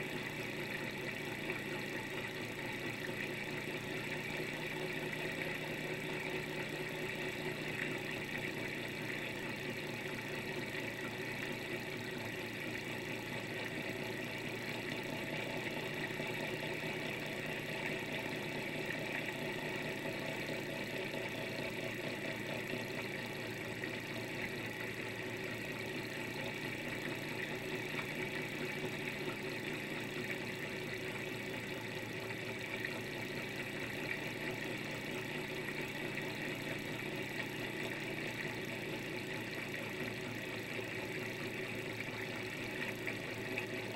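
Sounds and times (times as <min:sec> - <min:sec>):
small engine mechanical whirr: 0:00.0 - 0:43.9.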